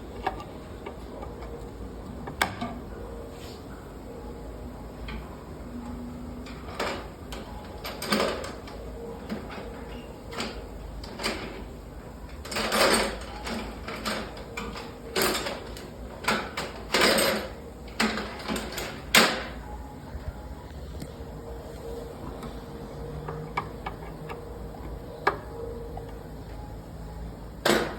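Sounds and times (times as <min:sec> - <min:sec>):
steady machinery hum: 0:00.0 - 0:27.9.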